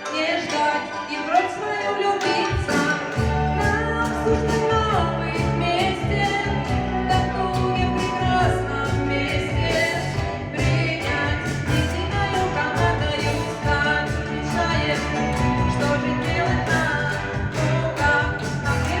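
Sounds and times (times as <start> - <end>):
backing music with beat and bass: 0.0 - 19.0
woman singing: 0.0 - 19.0.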